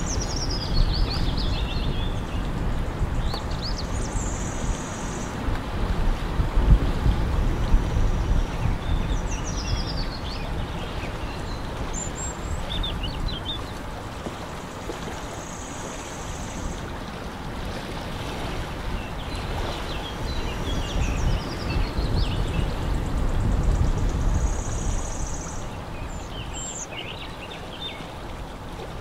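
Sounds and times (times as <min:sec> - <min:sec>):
small birds chirping: 0:00.0 - 0:05.4, 0:07.9 - 0:17.3, 0:18.9 - 0:28.6
wind rumbling on microphone: 0:00.0 - 0:29.0.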